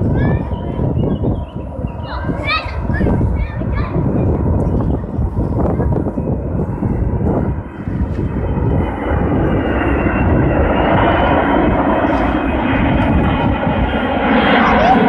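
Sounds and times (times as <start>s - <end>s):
high engine whine: 0.0s - 15.0s
jet engines rumbling overhead: 0.0s - 15.0s.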